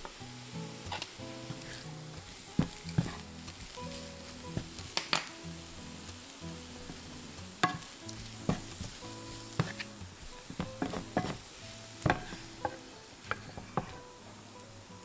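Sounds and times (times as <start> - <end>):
vegetables sizzling in oil: 0.0 - 15.0
spatula scraping a pan: 0.6 - 14.2.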